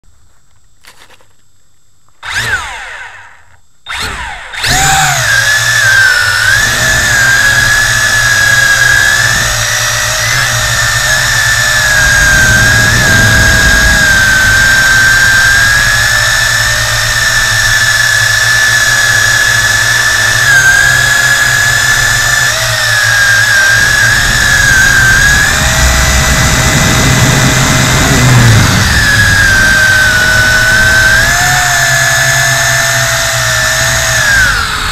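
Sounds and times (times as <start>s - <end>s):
drone motors whining: 2.1s - 34.9s.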